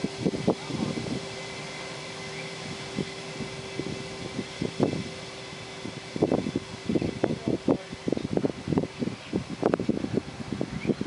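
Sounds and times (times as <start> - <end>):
jet engines humming: 0.0 - 11.0
wind buffeting microphone: 0.0 - 11.0.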